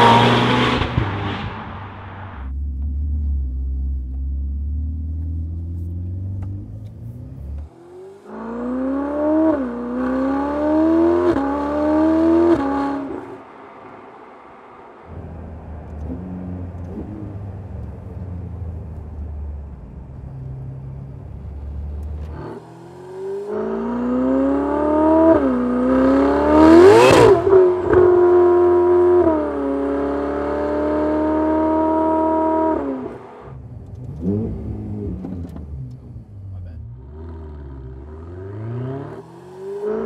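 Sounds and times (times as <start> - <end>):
sports car engine accelerating: 0.0 - 40.0.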